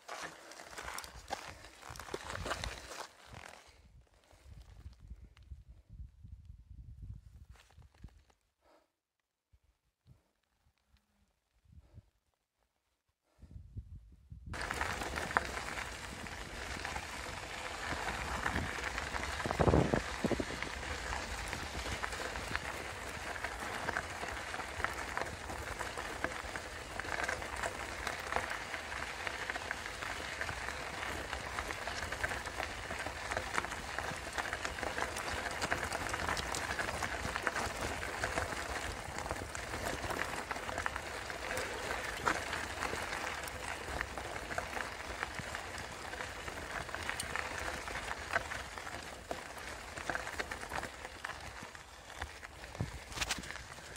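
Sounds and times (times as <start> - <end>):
bicycle tyres rolling on gravel: 0.0 - 5.4, 14.5 - 53.9.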